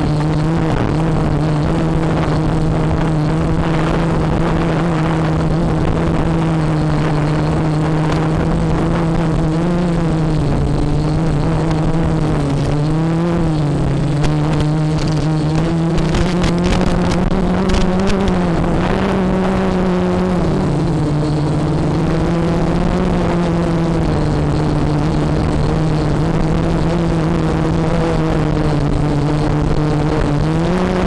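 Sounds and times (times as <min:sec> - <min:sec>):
quadcopter motors buzzing: 0:00.0 - 0:31.0.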